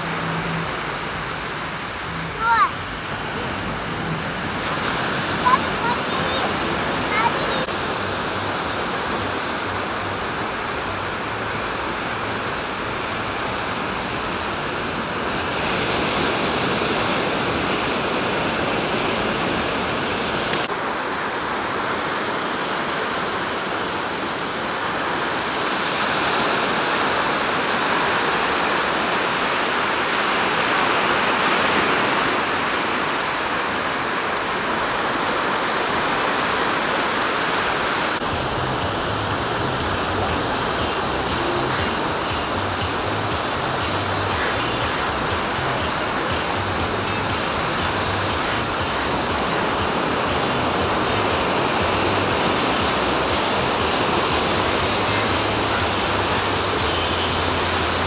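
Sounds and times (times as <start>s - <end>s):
waves breaking on a beach: 0.0s - 58.0s.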